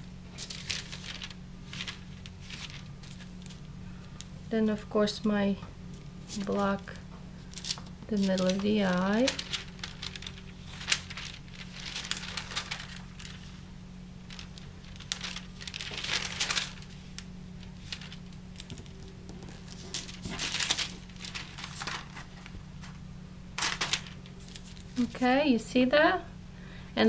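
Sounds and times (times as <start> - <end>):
paper rustling and crinkling: 0.0 - 4.3, 6.2 - 23.0, 23.6 - 25.3
faint low hum: 0.0 - 27.0.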